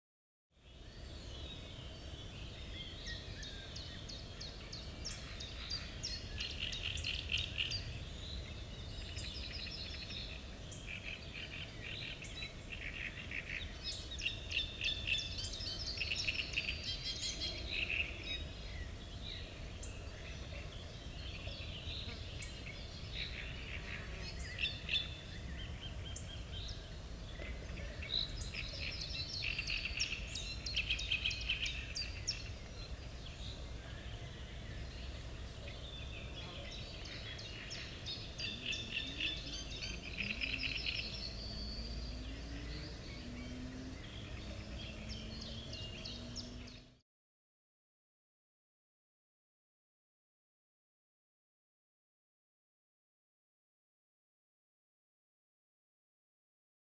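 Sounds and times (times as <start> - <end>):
songbirds singing and chirping: 0.6 - 47.0.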